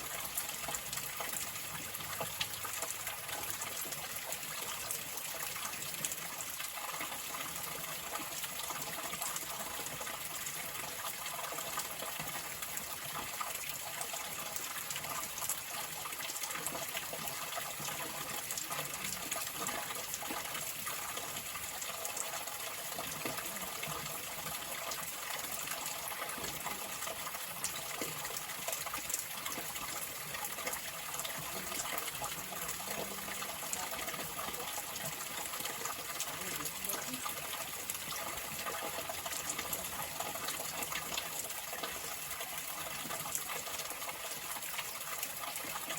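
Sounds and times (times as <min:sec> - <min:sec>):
water flowing: 0:00.0 - 0:45.9.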